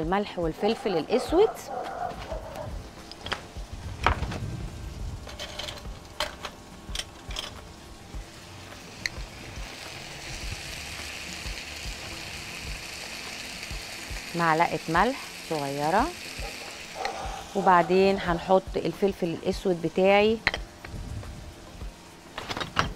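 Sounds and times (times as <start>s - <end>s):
food sizzling in a pan: 2.3s - 22.4s.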